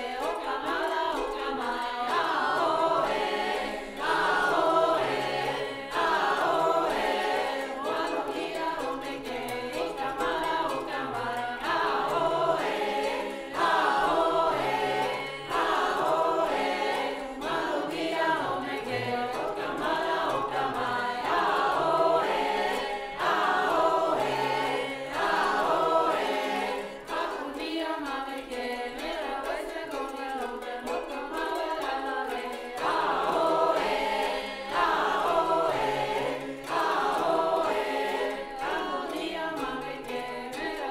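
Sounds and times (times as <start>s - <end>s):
mixed choir singing: 0.0s - 40.9s.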